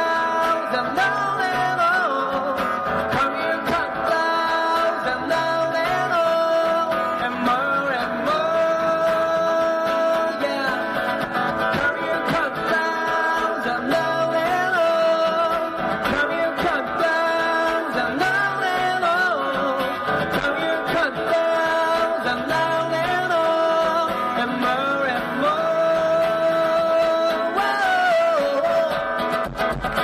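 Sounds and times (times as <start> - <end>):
guitar: 0.0 - 30.0
person singing: 0.0 - 30.0.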